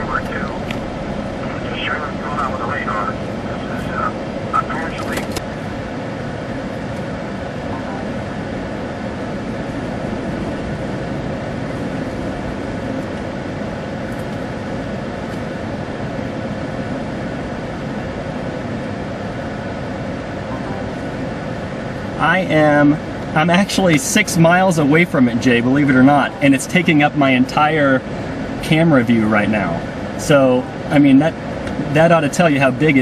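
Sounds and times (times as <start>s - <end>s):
vehicle running: 0.0s - 33.0s.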